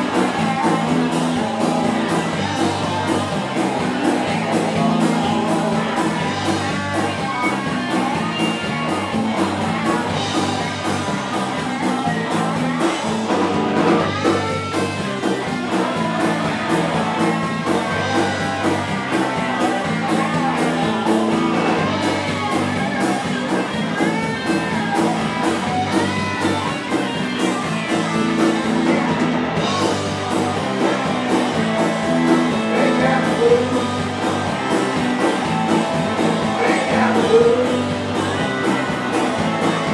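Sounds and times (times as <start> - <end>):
electric guitar: 0.0 - 39.9
live rock band playing: 0.0 - 39.9
steady drum beat: 0.0 - 39.9.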